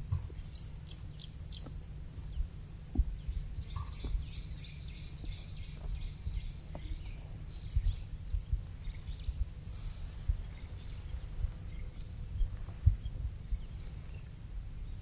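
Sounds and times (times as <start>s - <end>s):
low rumble: 0.0s - 15.0s
small birds chirping: 0.0s - 15.0s.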